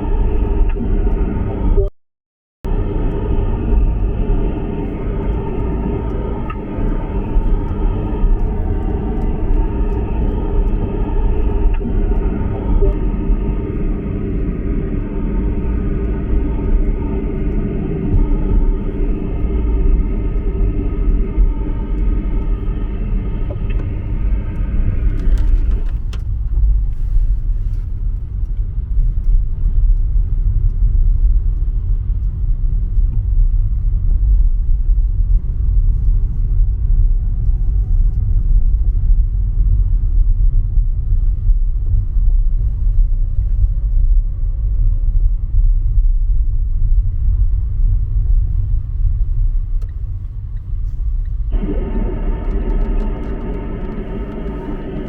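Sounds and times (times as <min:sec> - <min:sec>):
car road and engine rumble: 0:02.7 - 0:55.0.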